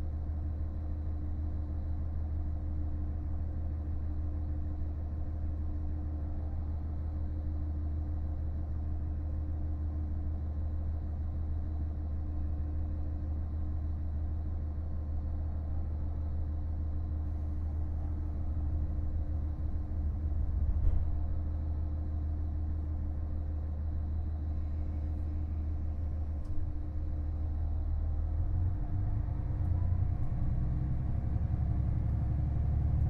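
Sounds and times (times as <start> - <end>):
railcar engine drone and rumble: 0.0 - 33.0.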